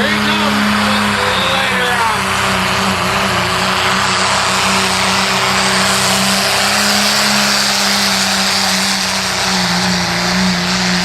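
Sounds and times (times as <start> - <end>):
engine running at high revs: 0.0 - 11.0.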